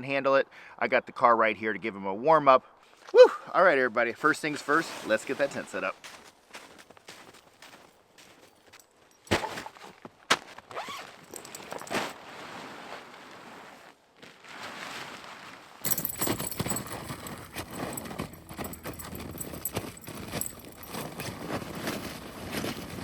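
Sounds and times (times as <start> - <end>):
camping gear rustling and scraping: 2.8 - 3.2, 4.1 - 23.0.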